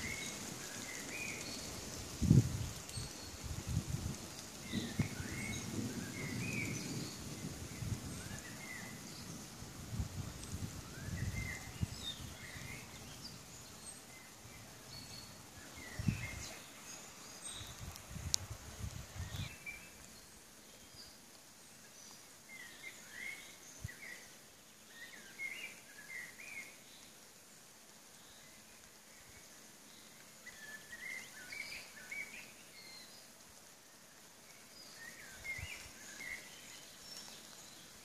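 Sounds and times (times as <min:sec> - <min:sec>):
songbirds singing and chirping: 0:00.0 - 0:38.0.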